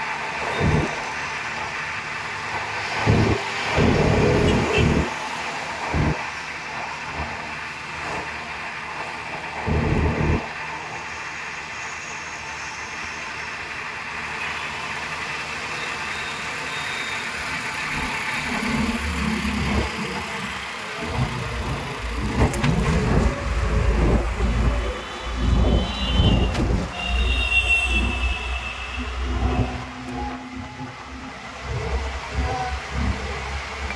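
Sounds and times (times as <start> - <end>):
passing motor vehicles: 0.0 - 33.9
road and wind noise: 0.0 - 33.9.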